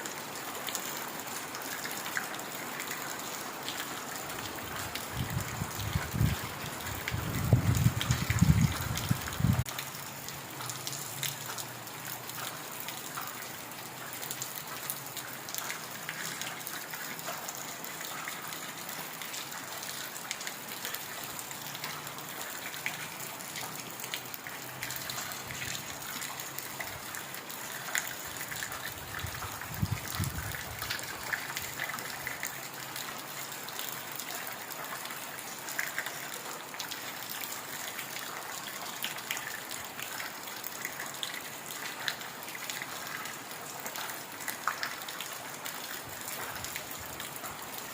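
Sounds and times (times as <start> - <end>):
heavy rain on foliage: 0.0 - 47.9.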